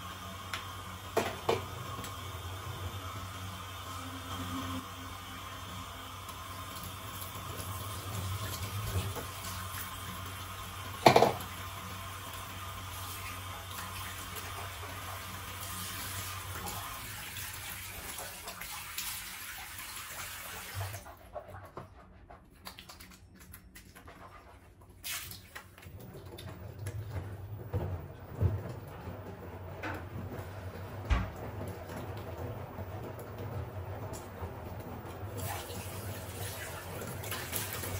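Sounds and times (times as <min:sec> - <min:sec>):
water running: 0:00.0 - 0:37.9.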